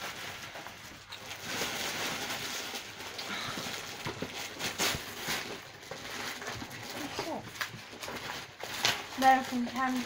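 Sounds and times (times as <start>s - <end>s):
paper and packaging rustling: 0.0s - 10.0s.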